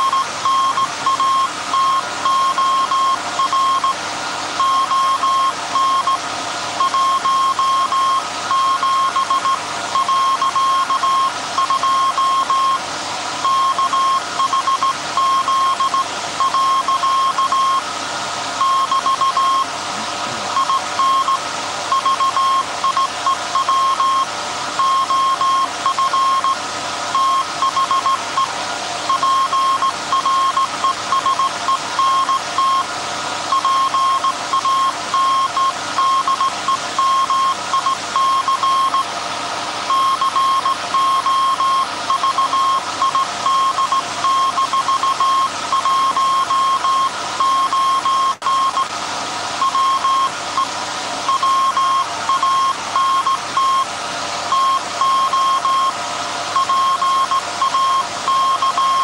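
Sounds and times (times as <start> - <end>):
morse code beeps: 0.0 - 4.0, 4.6 - 6.2, 6.8 - 12.8, 13.4 - 17.8, 18.6 - 19.7, 20.5 - 28.5, 29.1 - 32.9, 33.5 - 39.1, 39.9 - 48.9, 49.6 - 50.7, 51.3 - 53.9, 54.5 - 56.0, 56.6 - 59.0
alternator hum and whine: 0.0 - 59.0.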